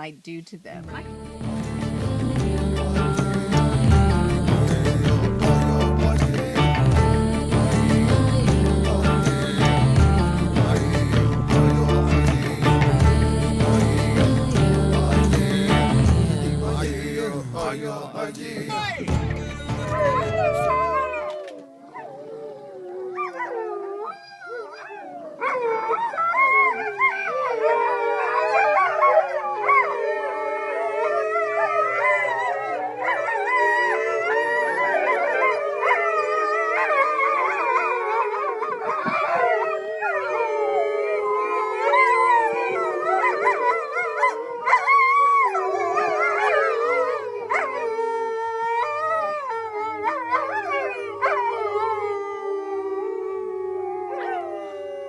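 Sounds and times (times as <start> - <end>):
wolves howling in chorus: 1.0 - 19.2, 20.0 - 55.0.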